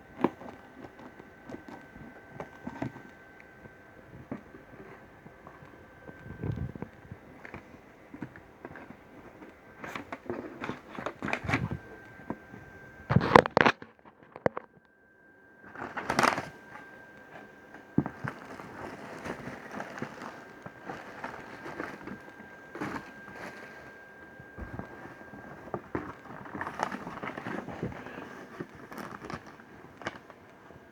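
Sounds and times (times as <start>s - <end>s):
packaging rustling and crinkling: 0.0s - 14.8s, 15.6s - 30.9s
faint high whine: 0.0s - 30.9s.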